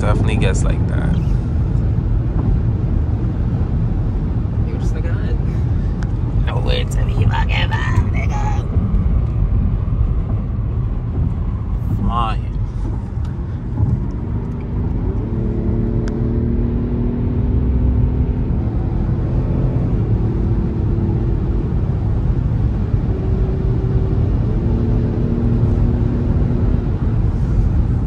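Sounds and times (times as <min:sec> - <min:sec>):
car engine drone: 0:00.0 - 0:28.0
road noise rumble: 0:00.0 - 0:28.0.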